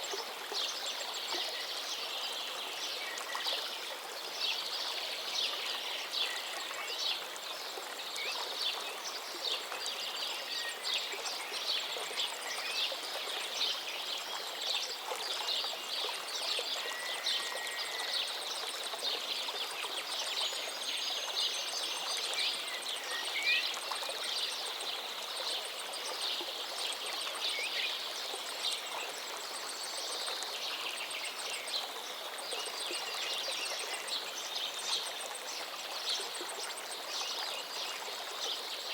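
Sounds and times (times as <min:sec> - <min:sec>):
stream water running: 0:00.0 - 0:38.9.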